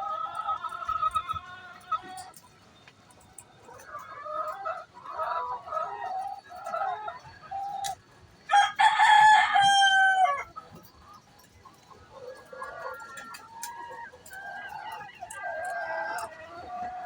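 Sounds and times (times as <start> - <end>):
chicken clucking: 0.0 - 17.0.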